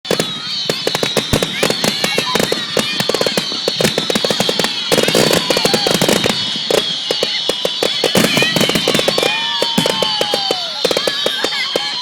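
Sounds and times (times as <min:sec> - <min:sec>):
fireworks popping and banging: 0:00.0 - 0:12.0
falling firework whistle: 0:00.1 - 0:12.0.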